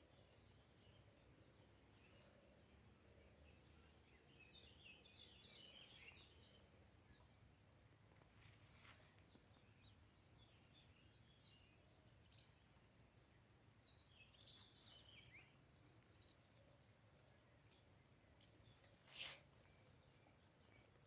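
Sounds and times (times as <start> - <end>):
faint birdsong chirps: 0.0 - 21.0.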